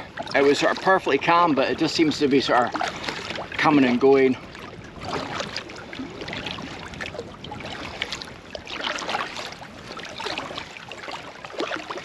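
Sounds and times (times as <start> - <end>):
kayak paddle splashing water: 0.0 - 12.0.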